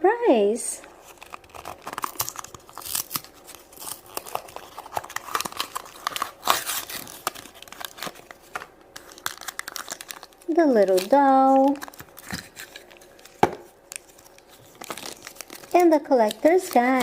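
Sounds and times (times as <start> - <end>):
plastic packaging tearing and crinkling: 0.9 - 17.0.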